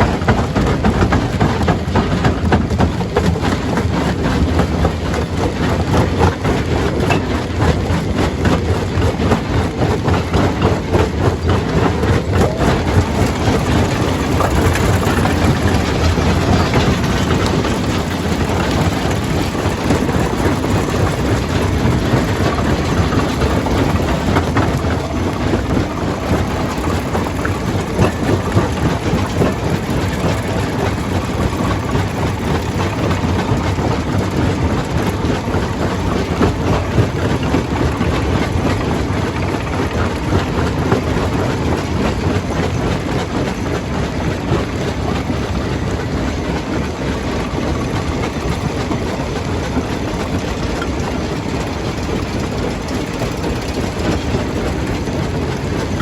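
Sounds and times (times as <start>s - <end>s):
heavy machinery rumble: 0.0s - 56.0s.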